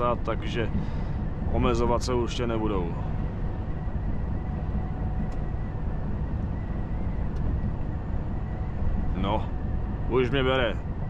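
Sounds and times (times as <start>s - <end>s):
road and wind noise: 0.0s - 11.0s
truck engine and tyres rumbling: 0.0s - 11.0s.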